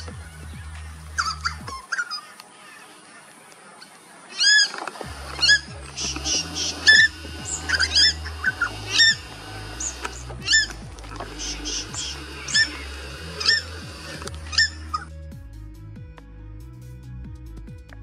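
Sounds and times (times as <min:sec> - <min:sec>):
swamphen alarm calls: 0:00.0 - 0:15.1
background music: 0:00.0 - 0:18.0.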